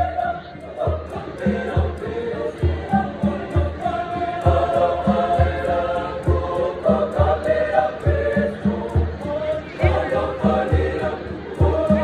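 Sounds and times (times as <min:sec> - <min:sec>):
girls' choir singing: 0:00.0 - 0:12.0
low thumping beat: 0:00.0 - 0:12.0.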